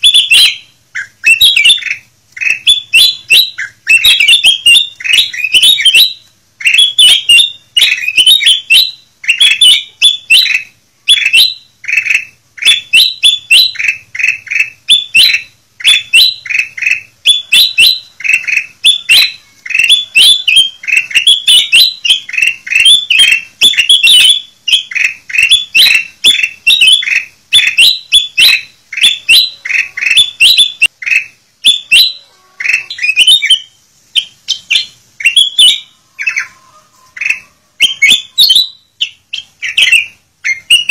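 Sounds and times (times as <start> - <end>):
bulbul singing whistled notes: 0.0 - 40.9.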